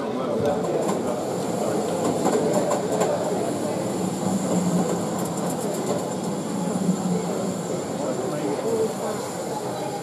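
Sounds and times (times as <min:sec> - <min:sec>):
faint background voices: 0:00.0 - 0:10.0.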